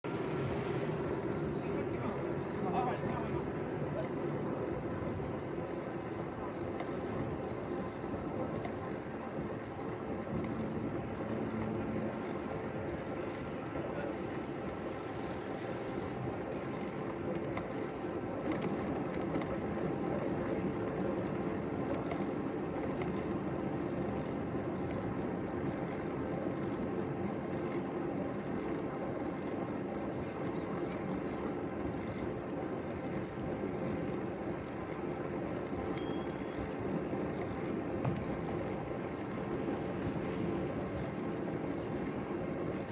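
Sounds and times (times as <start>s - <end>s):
bicycle rolling on path: 0.0s - 42.9s.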